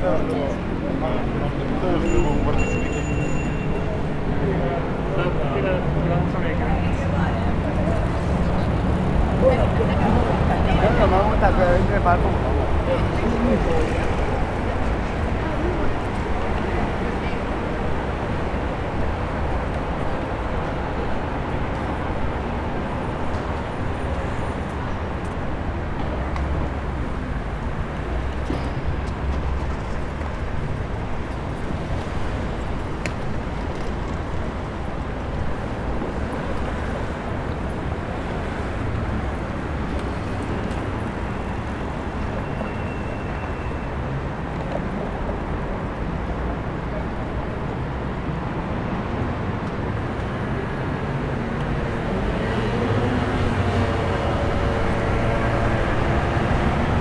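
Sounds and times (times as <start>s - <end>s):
low traffic rumble: 0.0s - 57.0s.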